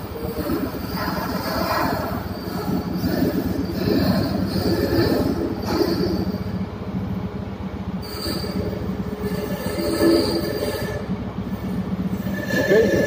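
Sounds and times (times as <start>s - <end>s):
high hydraulic whine: 0.0s - 13.0s
machinery hum: 0.0s - 13.0s.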